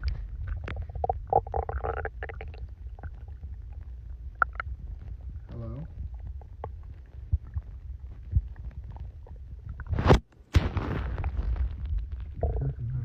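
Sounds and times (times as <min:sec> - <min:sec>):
stomach growling: 0:00.0 - 0:10.2, 0:10.8 - 0:13.0.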